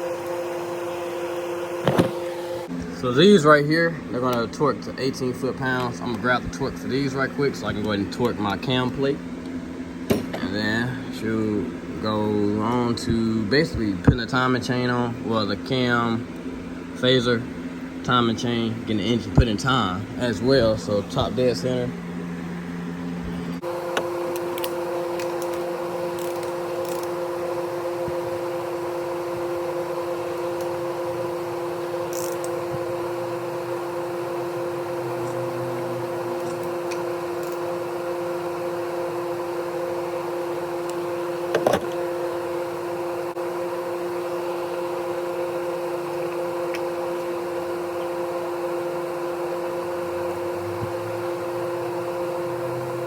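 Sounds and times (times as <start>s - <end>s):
electric machine hum: 0.0s - 53.0s.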